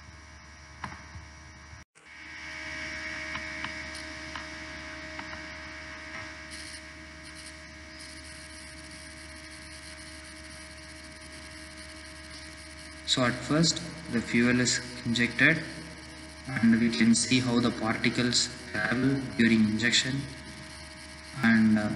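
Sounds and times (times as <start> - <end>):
electrical hum with hiss: 0.0 - 21.9.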